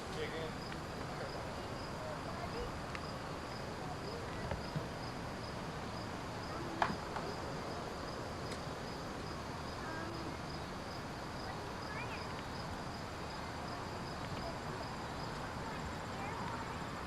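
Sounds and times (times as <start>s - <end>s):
insect chirping: 0.0s - 17.0s
low outdoor hiss: 0.0s - 17.0s.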